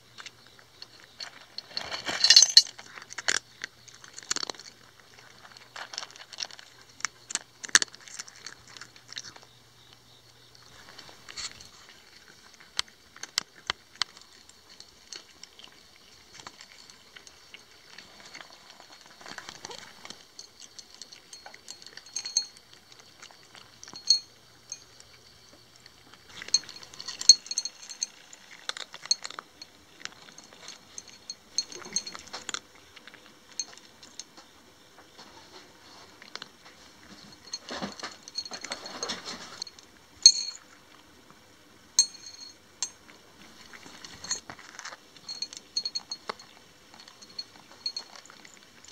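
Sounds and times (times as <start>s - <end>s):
cats crunching dry kibble: 0.0s - 48.9s
kibble clicking on metal bowls: 0.1s - 41.1s, 42.0s - 48.9s.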